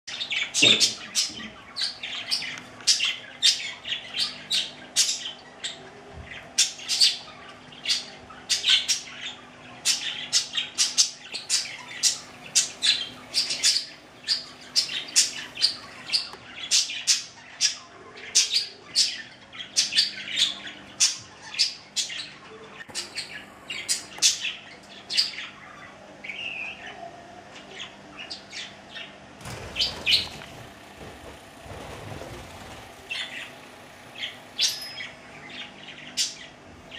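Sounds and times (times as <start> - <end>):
budgerigars chirping and squawking: 0.1 - 36.9.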